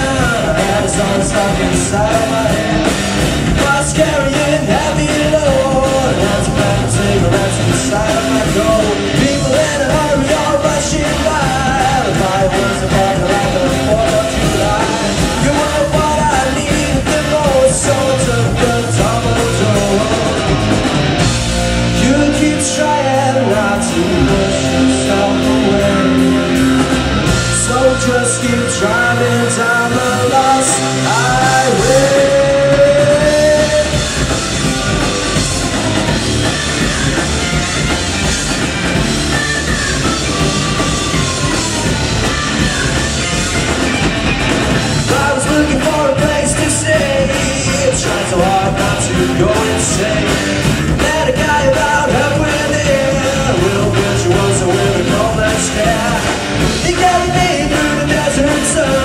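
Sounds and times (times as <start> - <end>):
man singing: 0.0 - 37.9, 44.7 - 59.0
drums: 0.0 - 59.0
electric guitars: 0.0 - 59.0.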